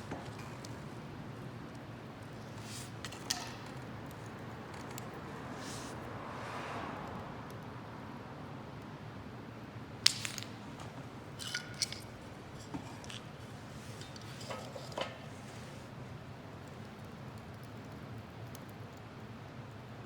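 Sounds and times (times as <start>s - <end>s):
wood stove fire crackling: 0.0s - 20.0s.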